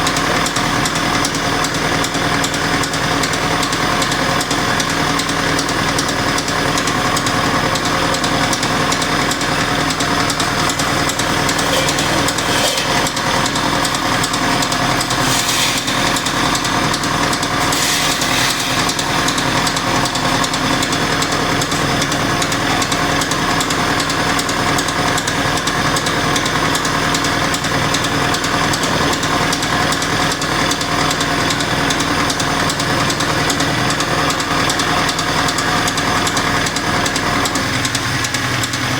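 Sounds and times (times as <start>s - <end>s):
engine running with a knock: 0.0s - 38.9s.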